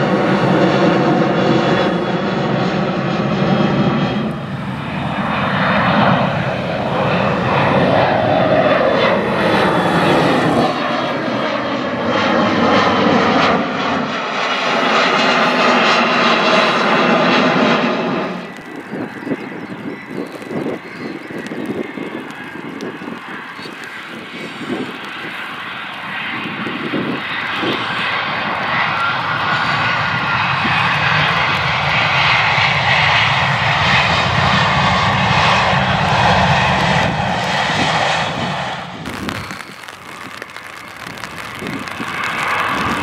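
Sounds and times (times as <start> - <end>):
jet airliner climbing overhead: 0.0 - 43.0
jet engine tones gliding downward: 0.0 - 43.0.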